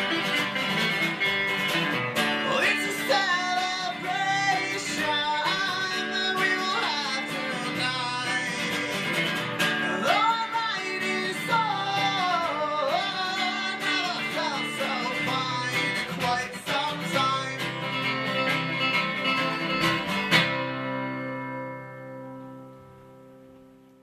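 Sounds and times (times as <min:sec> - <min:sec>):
acoustic guitars strumming: 0:00.0 - 0:23.9.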